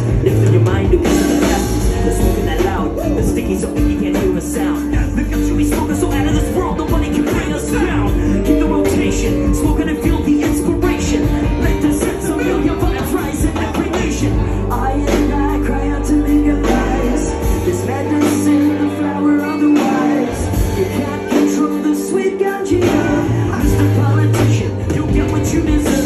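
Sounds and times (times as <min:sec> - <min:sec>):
drums: 0:00.0 - 0:26.0
electric guitars: 0:00.0 - 0:26.0
rock band playing: 0:00.0 - 0:26.0.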